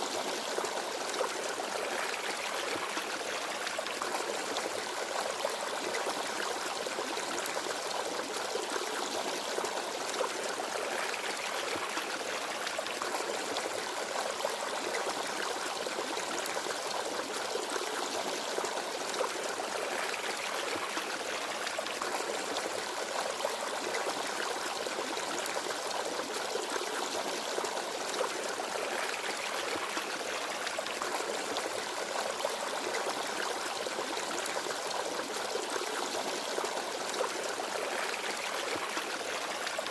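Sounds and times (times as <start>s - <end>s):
stream babbling over stones: 0.2s - 39.9s.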